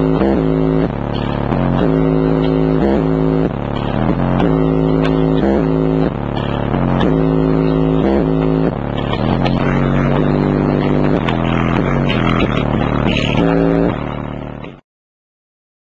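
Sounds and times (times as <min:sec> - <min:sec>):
bass-heavy music from car stereo: 0:00.0 - 0:14.8.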